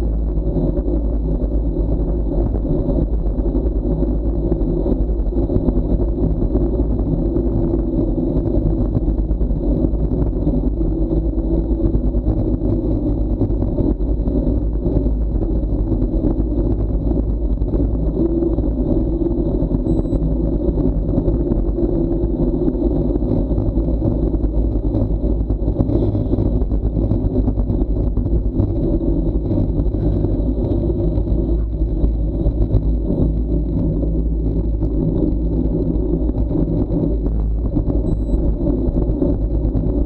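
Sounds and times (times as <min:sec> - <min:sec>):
tyres humming on asphalt: 0:00.0 - 0:40.0
wind rumble on microphone: 0:00.0 - 0:40.0.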